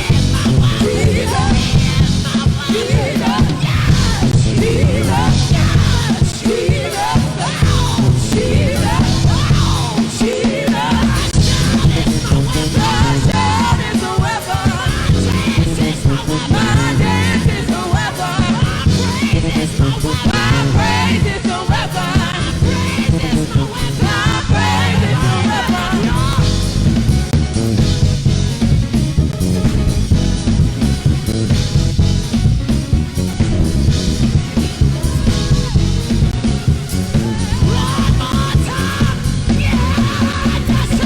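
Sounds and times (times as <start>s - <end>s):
voices singing: 0.0s - 27.3s, 33.2s - 41.0s
worship band playing: 0.0s - 41.0s.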